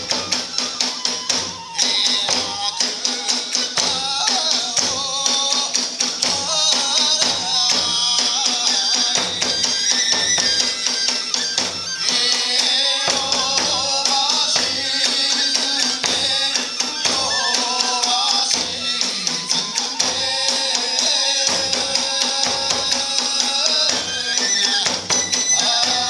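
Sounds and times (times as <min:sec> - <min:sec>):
bamboo flute melody: 0:00.0 - 0:26.0
drums driving beat: 0:00.0 - 0:26.0
hand cymbals clashing: 0:00.0 - 0:26.0.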